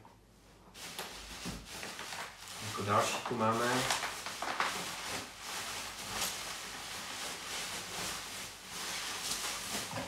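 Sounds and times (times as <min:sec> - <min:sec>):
bubble wrap crinkling: 0:00.7 - 0:10.0.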